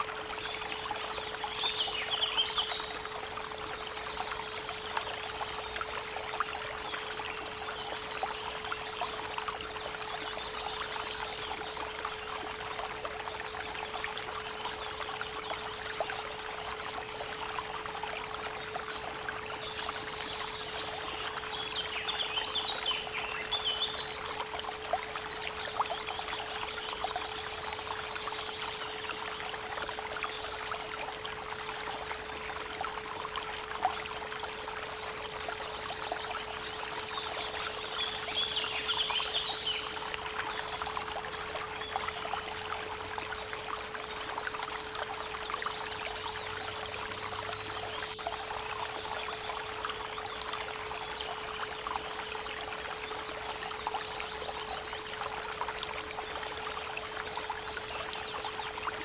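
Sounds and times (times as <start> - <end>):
birds singing: 0.0 - 32.6, 33.2 - 59.0
creek trickling: 0.0 - 59.0.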